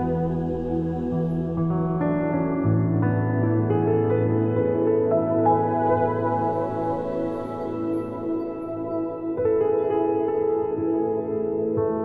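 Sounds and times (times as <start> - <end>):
calm ambient instrumental music: 0.0 - 12.0.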